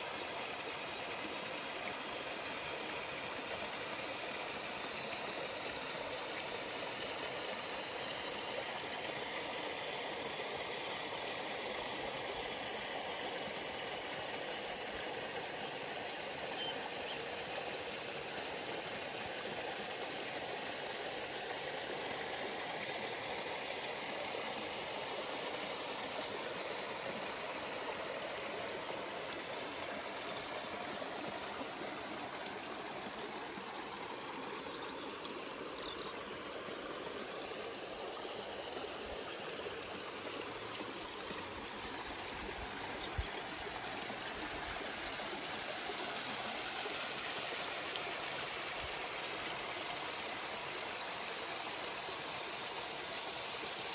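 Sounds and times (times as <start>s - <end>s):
stream rushing: 0.0s - 4.8s, 5.5s - 53.9s.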